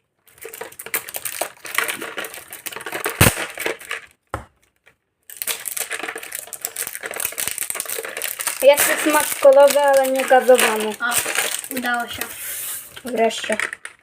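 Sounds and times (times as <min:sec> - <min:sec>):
candy wrapper crinkling: 0:00.2 - 0:04.1, 0:04.7 - 0:14.0.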